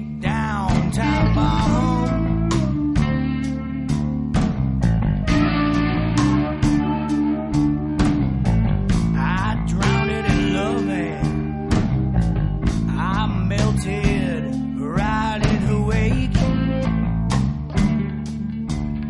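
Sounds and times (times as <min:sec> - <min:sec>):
guitar-led song: 0:00.0 - 0:19.0.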